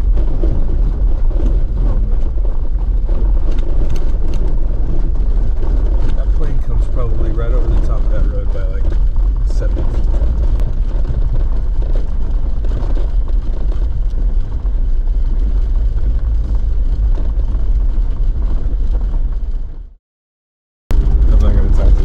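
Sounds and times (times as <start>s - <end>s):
vehicle engine and tyre rumble: 0.0s - 20.0s, 20.9s - 22.0s.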